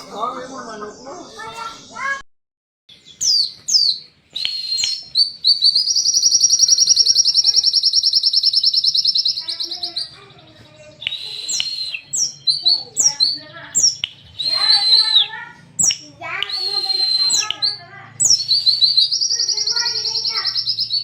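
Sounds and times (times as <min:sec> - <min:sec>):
fast high bird trill: 0:03.0 - 0:21.0.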